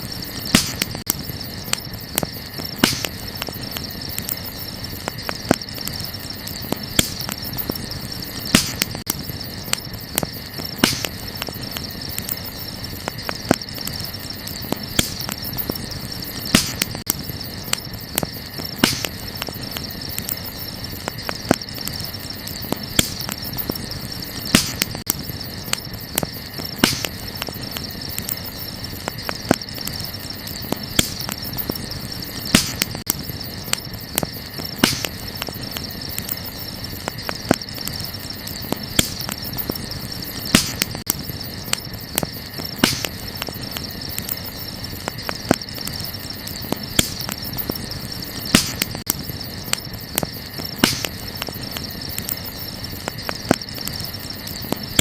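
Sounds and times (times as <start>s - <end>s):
campfire crackling: 0.0s - 55.0s
crickets chirring: 0.0s - 55.0s
fire wood popping: 0.0s - 55.0s.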